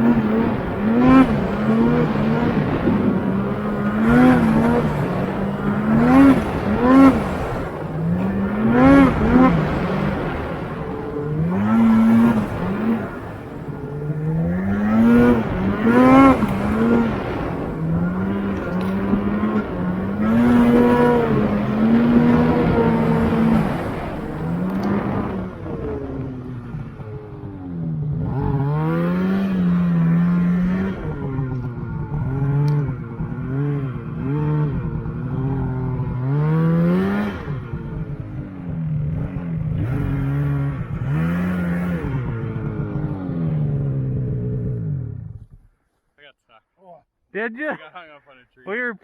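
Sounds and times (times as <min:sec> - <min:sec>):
snowmobile engine revving: 0:00.0 - 0:45.7.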